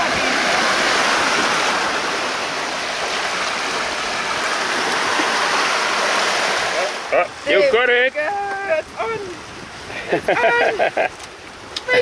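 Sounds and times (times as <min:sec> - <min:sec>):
water rushing past boat stern: 0:00.0 - 0:12.0.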